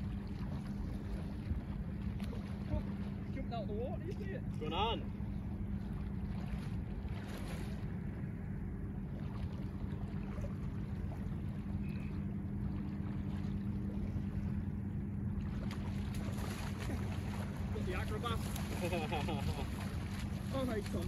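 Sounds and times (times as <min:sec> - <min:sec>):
gentle surf: 0:00.0 - 0:21.0
steady low hum: 0:00.0 - 0:21.0.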